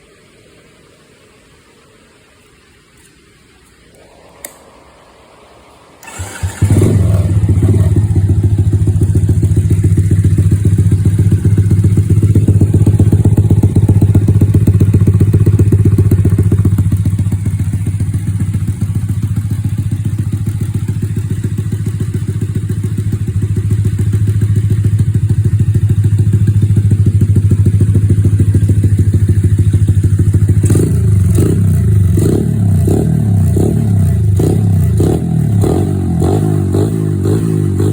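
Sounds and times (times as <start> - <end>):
motorcycle engine idling: 6.0 - 37.9
motorcycle throttle blips: 6.0 - 37.9.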